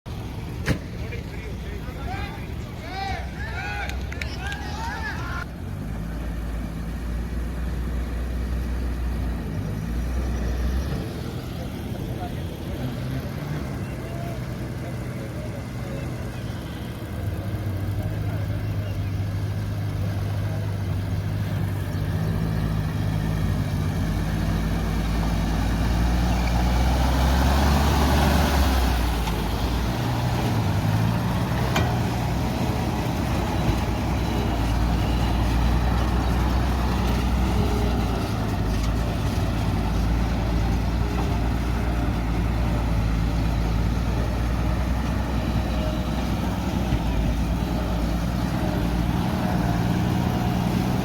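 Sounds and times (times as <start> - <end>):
truck diesel engine running: 0.1 - 51.0.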